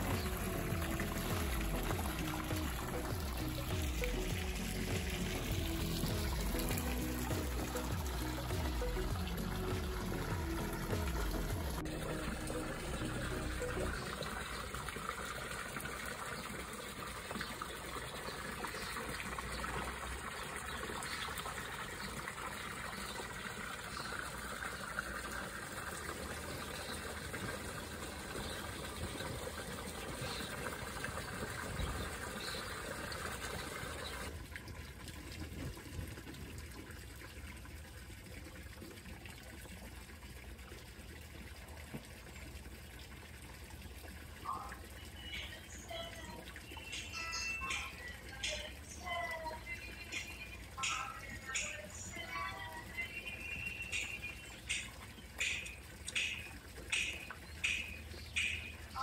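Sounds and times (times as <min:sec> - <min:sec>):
fountain water trickling and splashing: 0:00.0 - 0:59.0.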